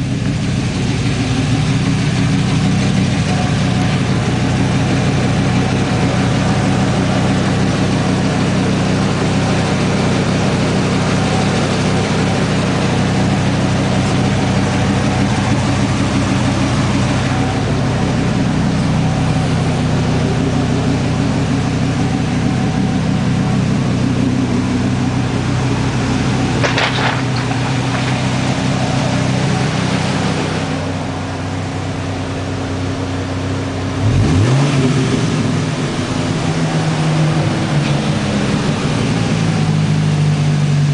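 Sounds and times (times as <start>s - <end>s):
engine idling and revving: 0.0s - 40.9s.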